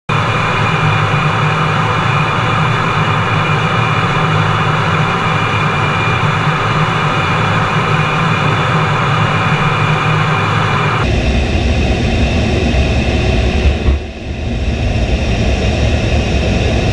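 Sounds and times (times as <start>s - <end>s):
jet cockpit engine rumble: 0.1s - 16.9s
thin steady whine: 0.1s - 16.9s.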